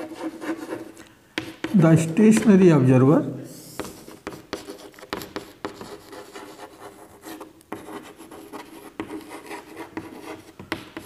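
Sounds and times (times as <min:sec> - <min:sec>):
chalk scratching on chalkboard: 0:00.0 - 0:02.5, 0:03.7 - 0:11.0.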